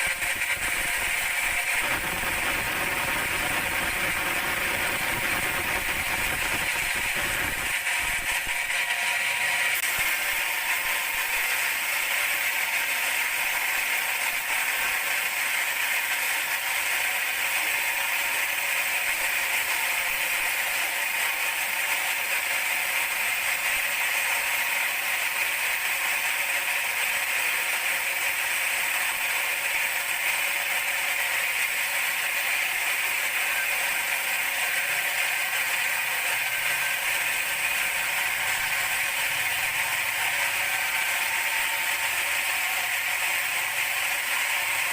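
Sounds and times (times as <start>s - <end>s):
band sawmill running: 0.0s - 44.9s.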